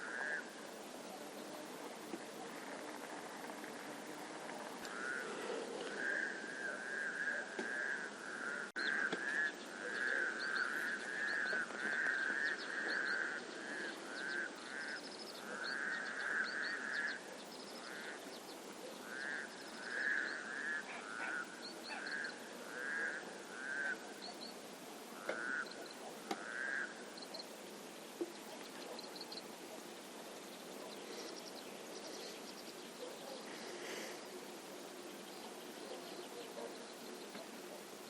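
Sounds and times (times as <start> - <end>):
faint bird chirps: 0.0 - 38.0
frogs croaking: 0.0 - 38.0.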